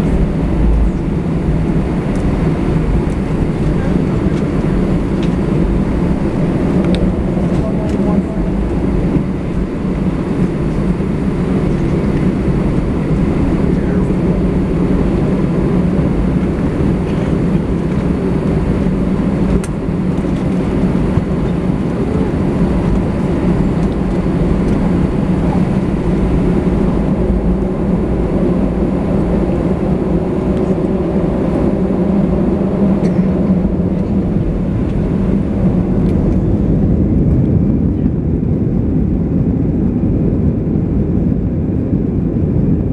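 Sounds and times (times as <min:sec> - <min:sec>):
airplane cabin engine noise: 0:00.0 - 0:42.9
low hum: 0:00.0 - 0:42.9.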